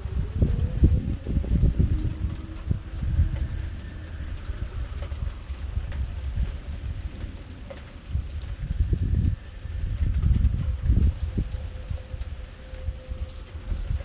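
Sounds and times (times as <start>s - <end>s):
low thunder rumble: 0.0s - 14.0s
rain drops ticking: 0.0s - 14.0s.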